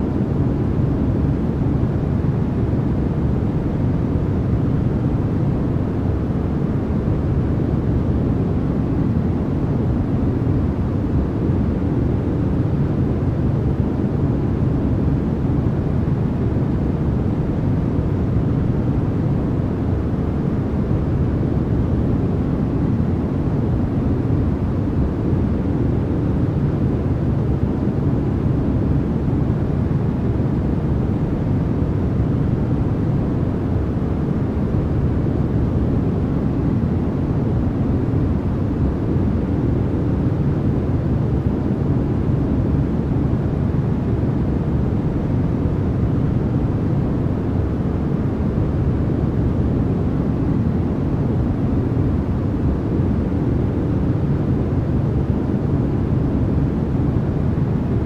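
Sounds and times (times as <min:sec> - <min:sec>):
deep white noise: 0:00.0 - 0:58.0.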